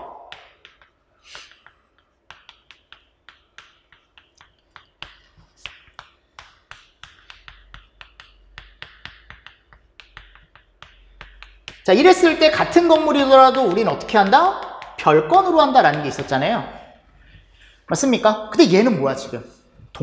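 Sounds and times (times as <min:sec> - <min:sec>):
chalk tapping and scraping on chalkboard: 0:00.2 - 0:18.0.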